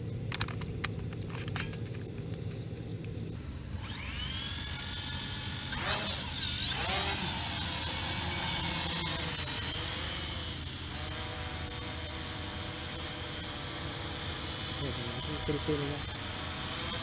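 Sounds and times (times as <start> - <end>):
toy drone propellers whining: 3.4 - 17.0.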